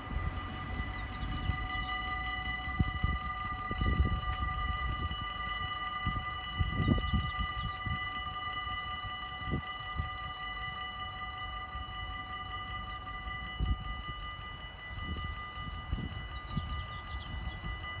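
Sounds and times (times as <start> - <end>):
level crossing warning bells: 0.0 - 18.0.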